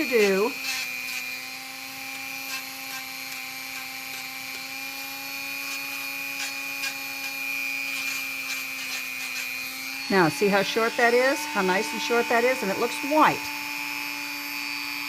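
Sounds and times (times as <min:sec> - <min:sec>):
sanding drum grinding toenail: 0:00.0 - 0:13.6
rotary tool whining: 0:00.0 - 0:15.0.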